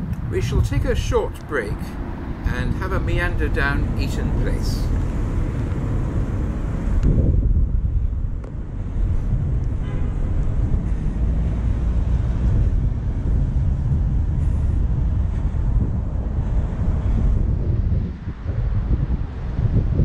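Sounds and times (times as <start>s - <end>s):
faint street traffic hum: 0.0s - 20.0s
wind buffeting microphone: 0.0s - 20.0s.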